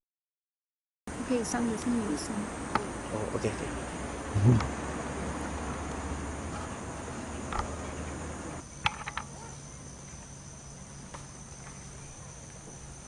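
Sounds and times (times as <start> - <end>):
crickets chirring: 1.1 - 13.0.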